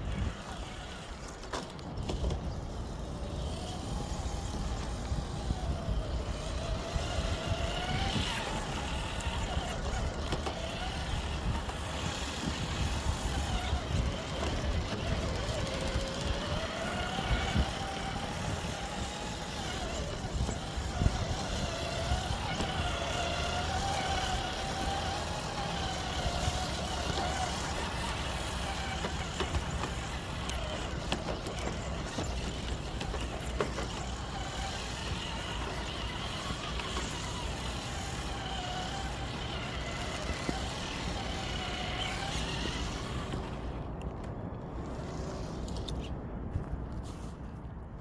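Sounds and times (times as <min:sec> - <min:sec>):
electric motor and gearbox whining: 0:00.0 - 0:47.3
distant highway traffic rumble: 0:00.0 - 0:48.0.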